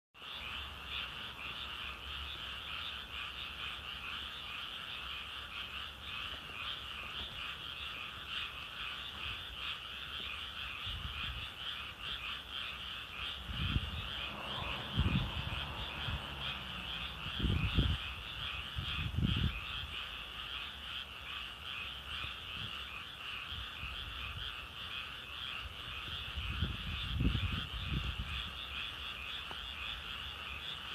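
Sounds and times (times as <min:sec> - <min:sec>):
chorus of frogs calling: 0:00.2 - 0:30.9.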